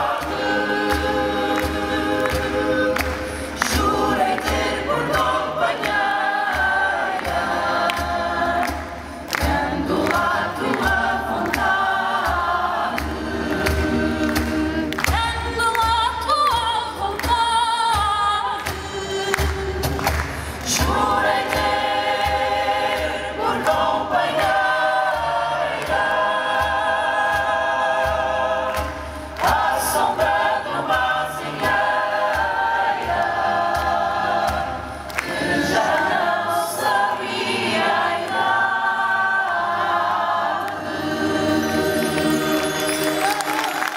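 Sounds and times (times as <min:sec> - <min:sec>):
choir singing held chords: 0:00.0 - 0:15.5, 0:18.7 - 0:43.9.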